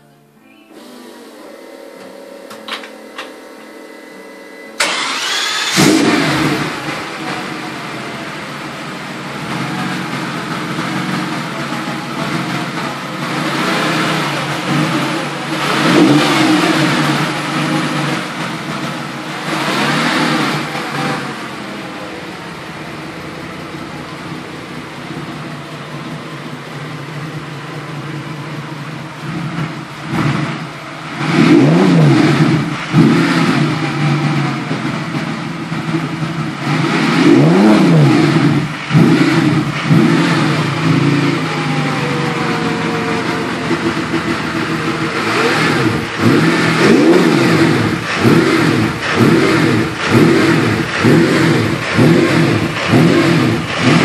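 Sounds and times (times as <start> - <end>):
engine revving and idling: 4.8 - 54.0.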